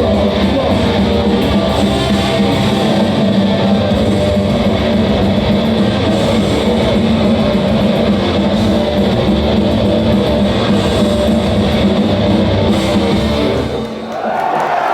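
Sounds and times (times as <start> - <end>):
distorted electric guitars: 0.0 - 14.1.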